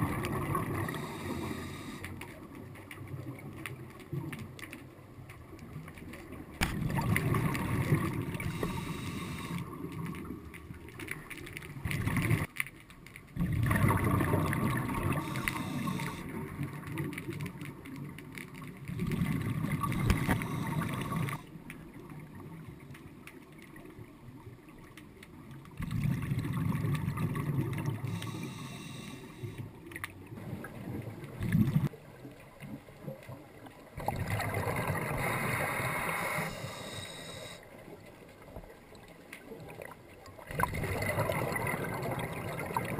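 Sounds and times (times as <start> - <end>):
underwater exhaled bubbles: 0.0 - 4.6, 5.4 - 12.6, 13.3 - 42.9.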